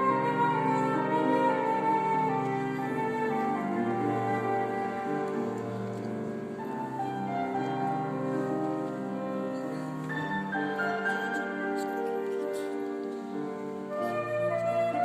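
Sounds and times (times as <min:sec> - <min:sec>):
flute: 0:00.0 - 0:15.0
piano: 0:00.0 - 0:15.0.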